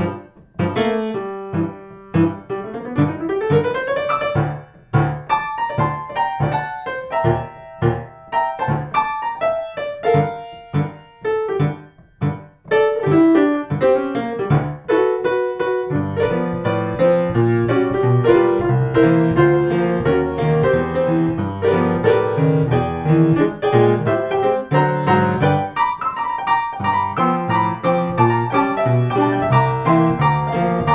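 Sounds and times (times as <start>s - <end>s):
solo piano playing blues: 0.0s - 30.9s.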